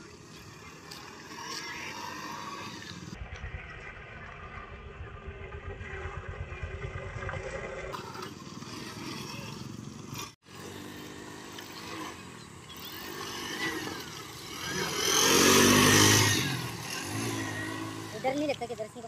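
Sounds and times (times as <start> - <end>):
auto-rickshaw engine running: 0.0 - 19.0.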